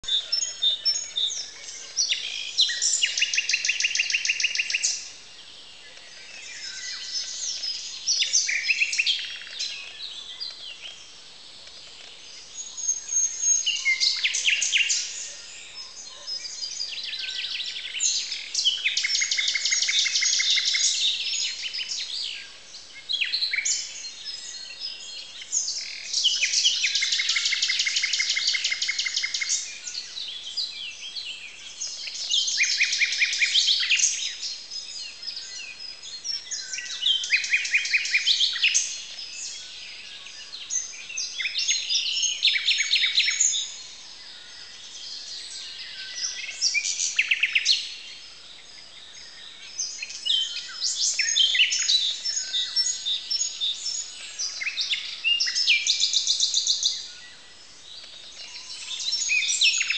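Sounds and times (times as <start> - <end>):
nightingale singing: 0.0 - 59.9
songbirds singing: 0.0 - 59.9.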